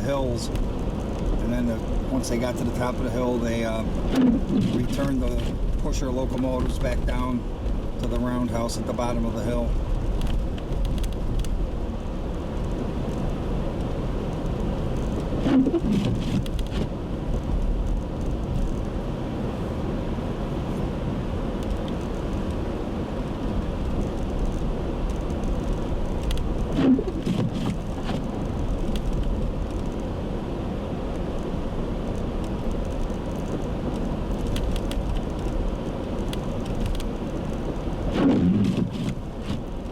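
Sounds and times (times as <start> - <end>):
car road noise from cabin: 0.0 - 39.9.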